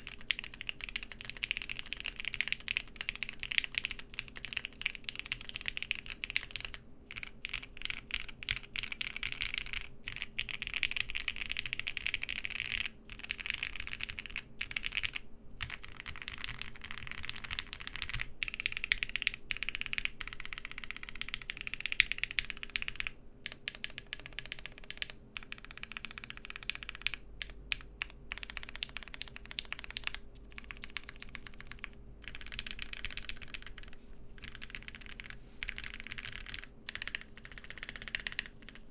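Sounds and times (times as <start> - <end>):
faint fan hum: 0.0 - 38.9
mechanical keyboard typing: 0.0 - 38.9.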